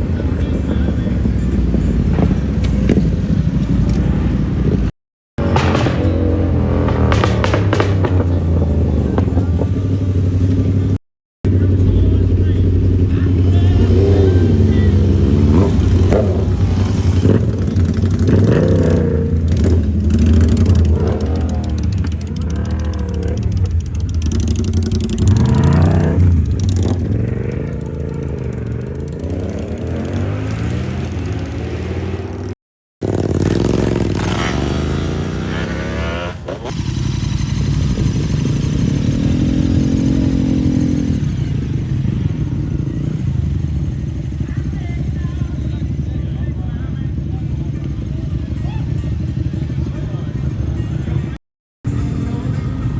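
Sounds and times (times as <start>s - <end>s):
motorcycles riding past: 0.0s - 52.9s
vehicle engines revving: 0.0s - 52.9s.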